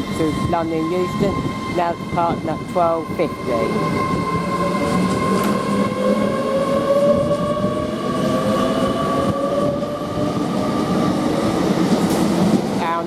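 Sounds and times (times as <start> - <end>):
train whine rising in pitch: 0.0 - 12.6
train rumble: 0.0 - 13.0.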